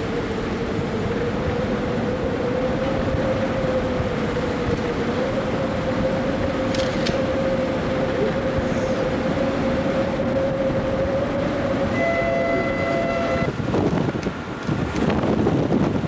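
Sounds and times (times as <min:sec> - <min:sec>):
noisy rumble: 0:00.0 - 0:14.6
ferry machinery humming: 0:00.0 - 0:16.0.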